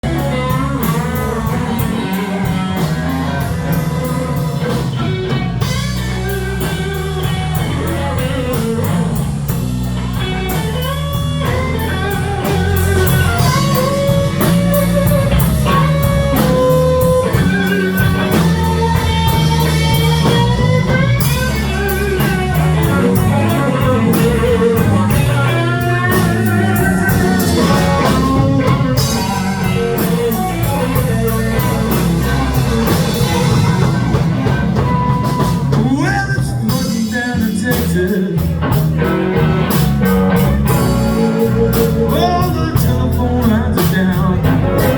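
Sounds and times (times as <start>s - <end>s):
bass: 0.0s - 44.9s
drums: 0.0s - 44.9s
electric guitar lead lines: 0.0s - 44.9s.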